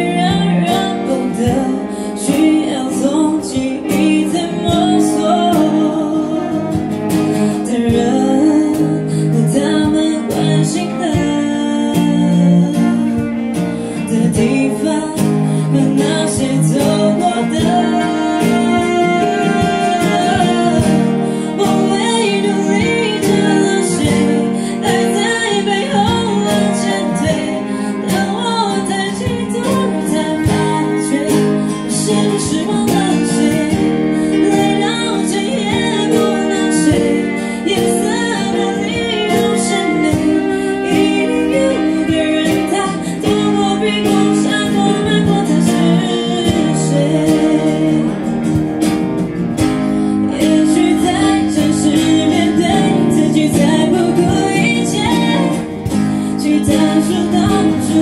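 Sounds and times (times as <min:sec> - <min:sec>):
cello: 0:00.0 - 0:58.0
strummed acoustic guitar: 0:00.0 - 0:58.0
woman singing into a microphone: 0:00.0 - 0:58.0.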